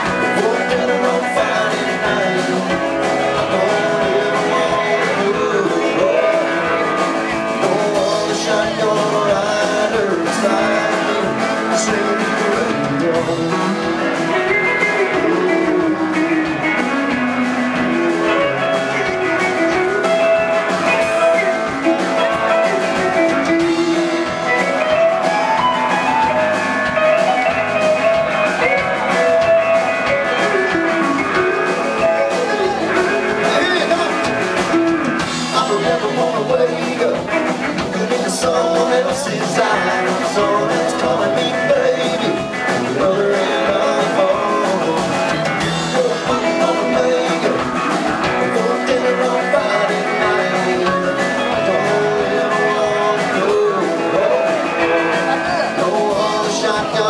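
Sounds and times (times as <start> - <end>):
country-rock band playing: 0.0 - 57.0
steel guitar sliding notes: 0.0 - 57.0.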